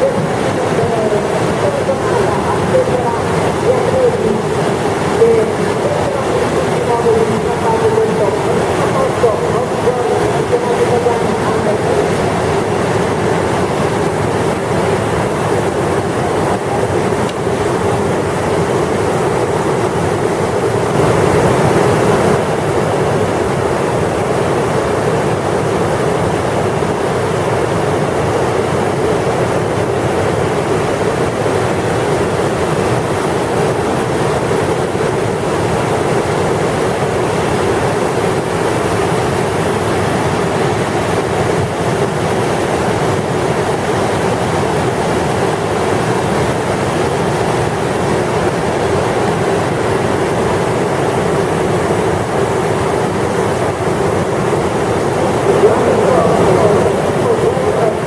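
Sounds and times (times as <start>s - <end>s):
whitewater rapids rushing: 0.0s - 58.0s.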